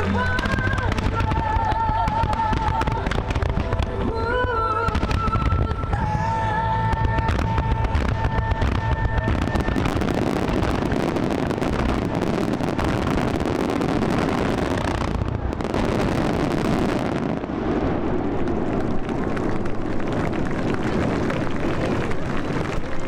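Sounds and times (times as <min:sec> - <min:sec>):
fireworks bursting: 0:00.0 - 0:06.2, 0:06.9 - 0:23.0.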